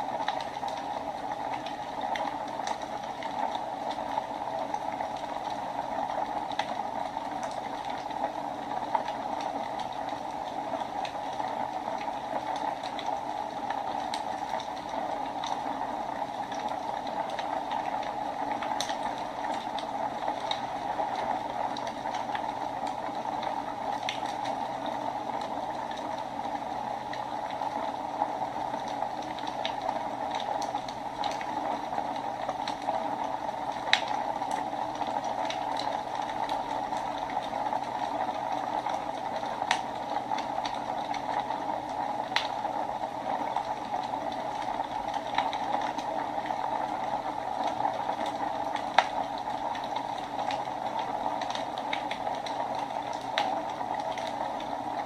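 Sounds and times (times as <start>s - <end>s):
wood fire crackling and popping: 0.0s - 28.1s, 28.7s - 55.0s.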